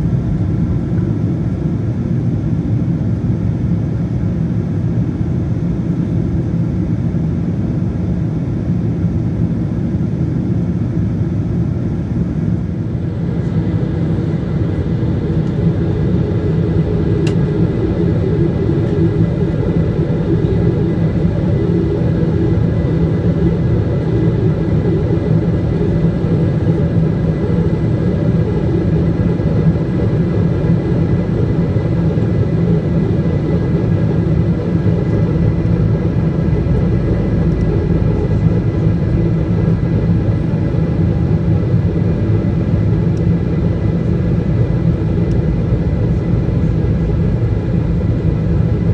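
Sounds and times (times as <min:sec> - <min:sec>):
airplane cabin airflow and engine drone: 0:00.0 - 0:48.9.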